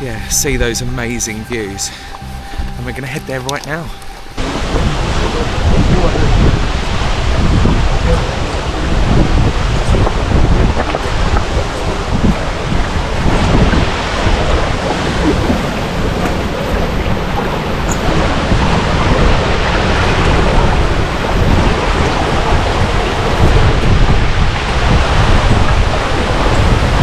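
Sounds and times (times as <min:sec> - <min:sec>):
waterfall rushing: 0:00.0 - 0:27.0
wind buffeting microphone: 0:00.0 - 0:27.0.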